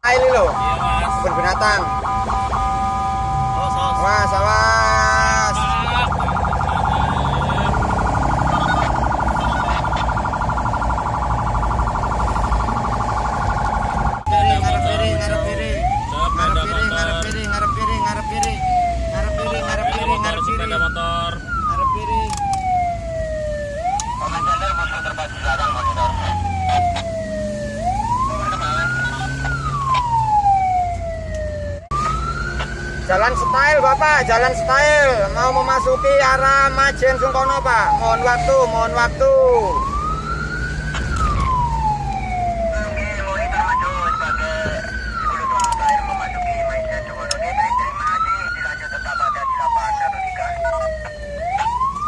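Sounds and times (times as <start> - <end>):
ambulance siren warbling: 0.0 - 52.0
road noise: 0.0 - 52.0
vehicle engine rumble: 0.0 - 52.0.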